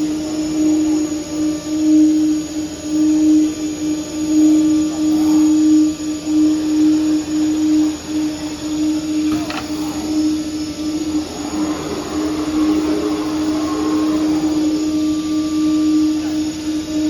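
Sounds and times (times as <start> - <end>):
router spindles whining: 0.0 - 17.0.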